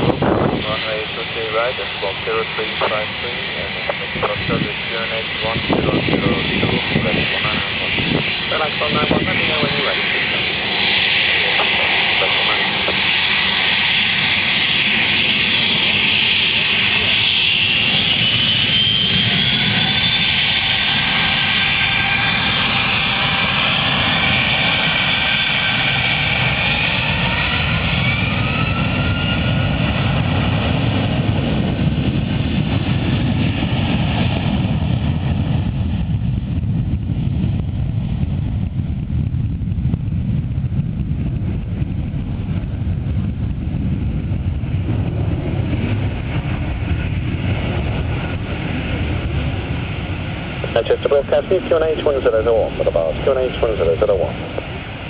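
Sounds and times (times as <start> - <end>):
jet engine low rumble: 0.0 - 55.0
jet engines whining: 0.0 - 55.0.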